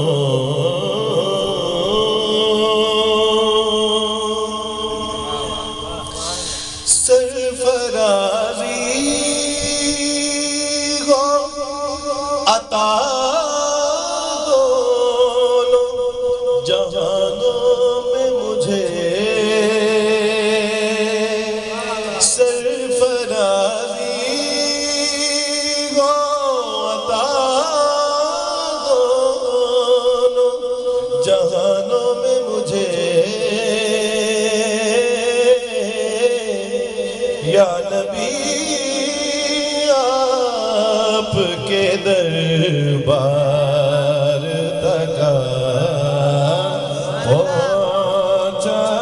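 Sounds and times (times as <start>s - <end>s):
man singing into a microphone: 0.0s - 49.0s.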